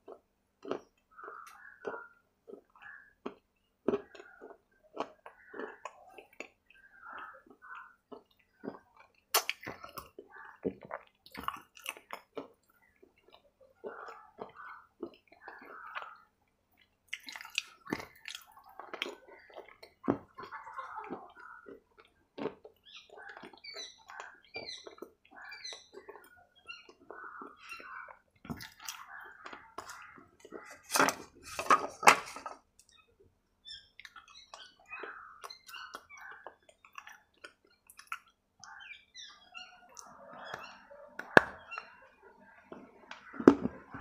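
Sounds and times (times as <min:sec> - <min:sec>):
wet chewing and mouth smacking: 0:00.0 - 0:33.0, 0:33.8 - 0:39.0.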